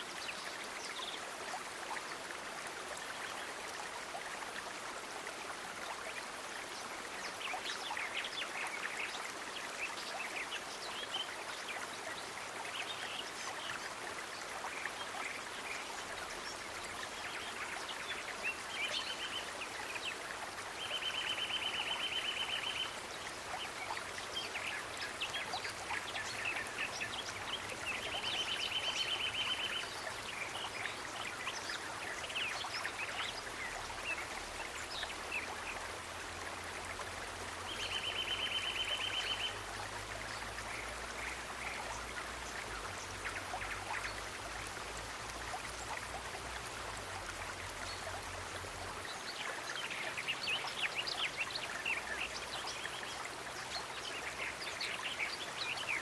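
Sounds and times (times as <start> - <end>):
running water: 0.0 - 56.0.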